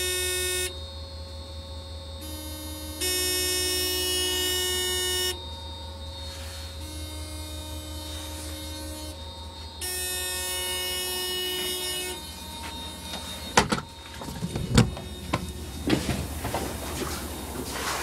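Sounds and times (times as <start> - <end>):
loud pitched tone: 0.0 - 0.8, 2.2 - 18.0
electric locomotive humming: 0.0 - 18.0.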